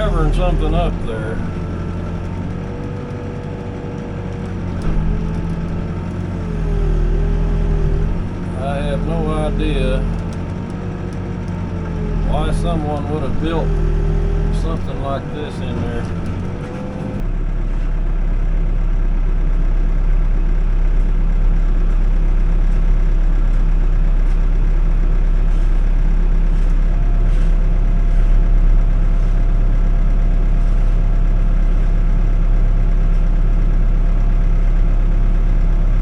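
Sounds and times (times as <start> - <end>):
backhoe diesel engine running: 0.0 - 36.0.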